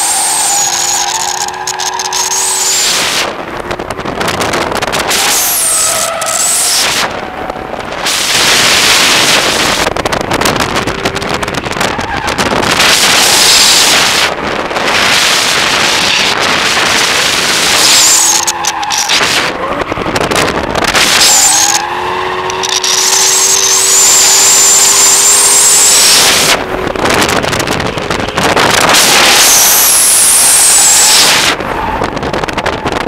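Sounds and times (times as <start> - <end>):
car engine running hard: 0.0 - 33.0
wind buffeting microphone: 3.0 - 5.4, 6.8 - 18.0, 19.1 - 21.4, 22.2 - 33.0.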